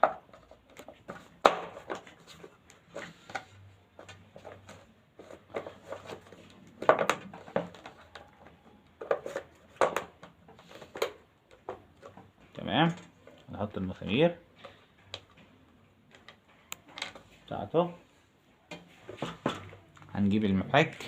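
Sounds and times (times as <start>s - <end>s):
plastic parts clicking and knocking: 0.0s - 17.4s.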